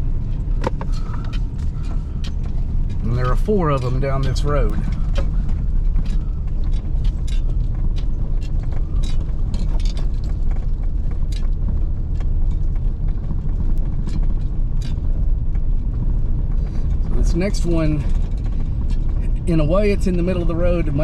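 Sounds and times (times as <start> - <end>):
vehicle knocks and rattles: 0.0 - 21.0
vehicle rumbling on dirt road: 0.0 - 21.0.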